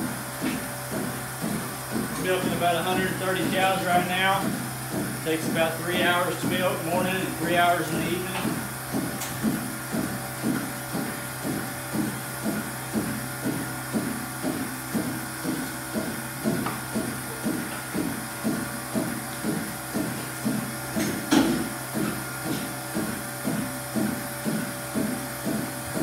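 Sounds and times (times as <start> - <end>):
milking machine pulsators pulsing: 0.0 - 26.0
steady low hum: 0.0 - 26.0.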